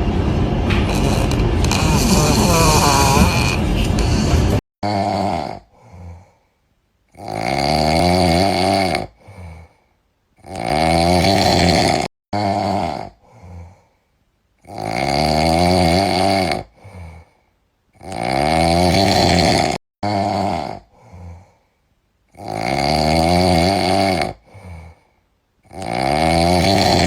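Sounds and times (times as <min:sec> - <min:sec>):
cat snoring: 0:00.8 - 0:06.4, 0:07.1 - 0:09.8, 0:10.4 - 0:14.0, 0:14.6 - 0:17.4, 0:18.0 - 0:21.6, 0:22.3 - 0:27.0.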